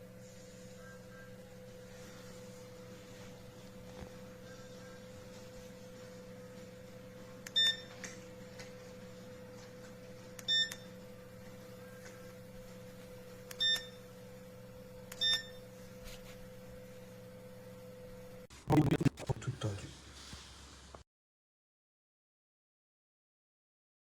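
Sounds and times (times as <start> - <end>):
low electrical hum: 0.0 - 20.1.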